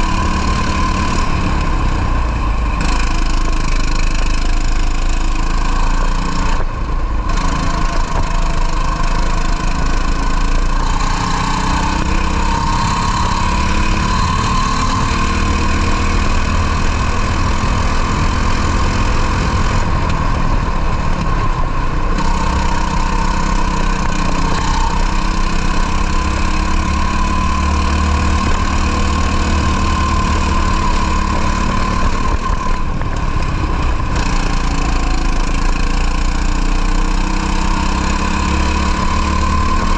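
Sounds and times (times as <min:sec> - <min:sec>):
two-stroke kart engine revving: 0:00.0 - 0:39.9.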